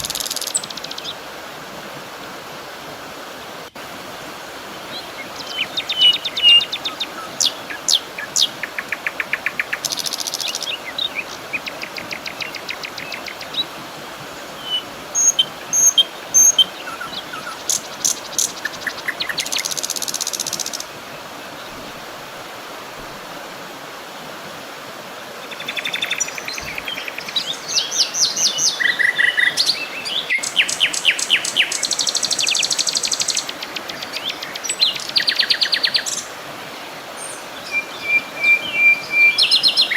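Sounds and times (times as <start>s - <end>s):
songbirds singing and calling: 0.0s - 1.2s, 4.5s - 21.9s, 25.4s - 39.9s
stream rushing: 0.0s - 39.9s.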